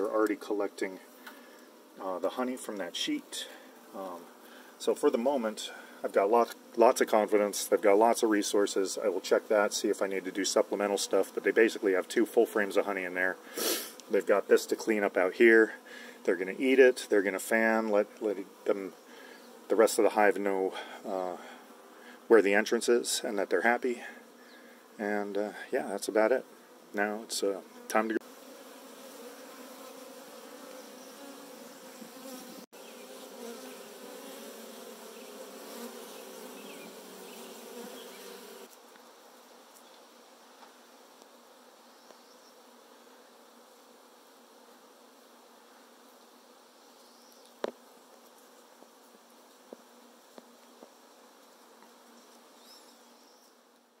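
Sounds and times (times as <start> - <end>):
honeybees buzzing: 0.0 - 53.9.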